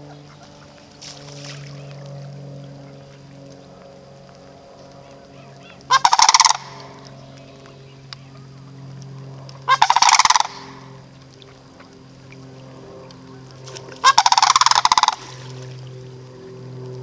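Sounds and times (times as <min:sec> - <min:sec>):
cranes rattling calls: 0:00.0 - 0:08.9, 0:09.5 - 0:16.7.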